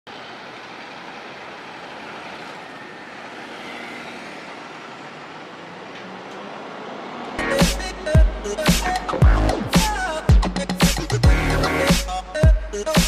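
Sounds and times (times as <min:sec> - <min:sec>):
passing road traffic: 0:00.1 - 0:13.0.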